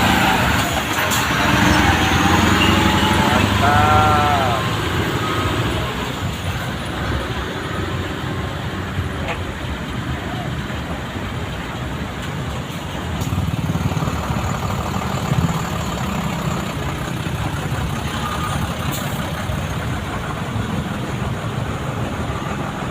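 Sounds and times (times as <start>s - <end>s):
truck engine rumbling: 0.0s - 22.9s.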